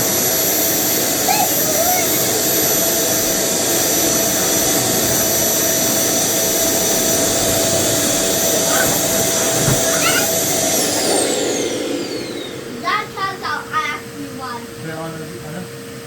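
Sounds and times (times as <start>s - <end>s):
vacuum cleaners whining: 0.0s - 16.0s.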